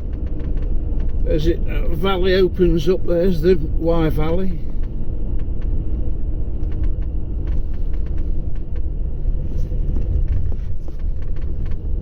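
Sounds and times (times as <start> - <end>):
rattles and knocks: 0.0 - 2.4, 4.7 - 12.0
car engine and tyres rumbling: 0.0 - 12.0.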